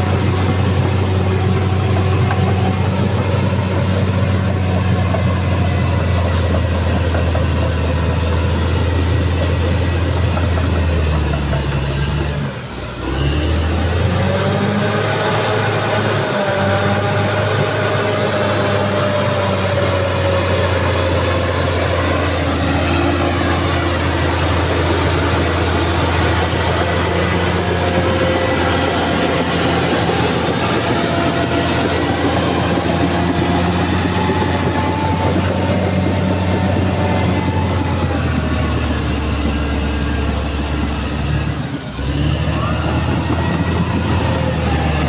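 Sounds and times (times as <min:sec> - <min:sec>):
bulldozer diesel engine running: 0:00.0 - 0:45.0
high machine whine: 0:00.0 - 0:45.0.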